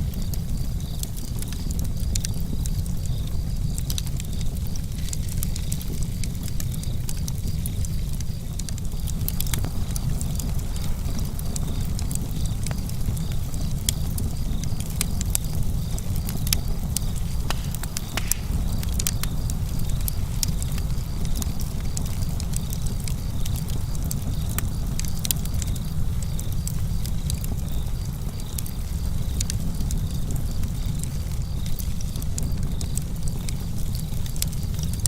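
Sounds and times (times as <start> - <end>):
campfire burning: 0.0 - 35.0.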